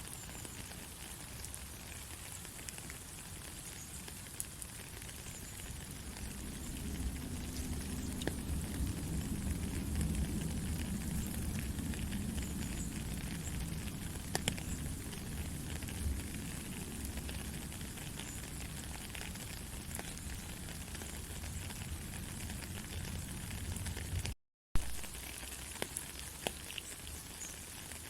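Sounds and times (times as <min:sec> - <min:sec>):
raindrops tapping: 0:00.0 - 0:28.0
steady rain: 0:00.0 - 0:28.0.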